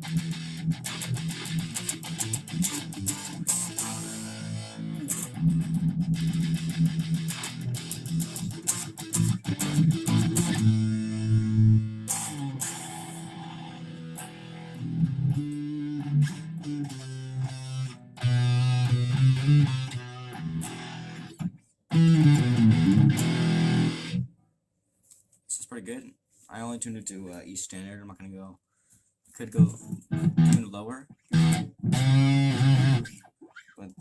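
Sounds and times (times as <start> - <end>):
distorted electric guitar riff: 0.0 - 24.3, 29.6 - 30.7, 31.3 - 33.2.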